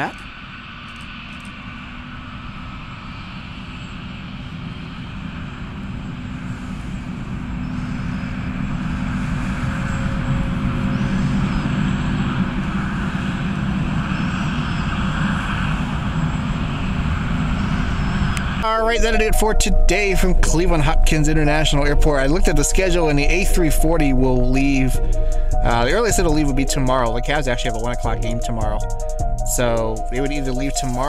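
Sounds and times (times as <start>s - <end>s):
jet engines taxiing: 0.0s - 31.0s.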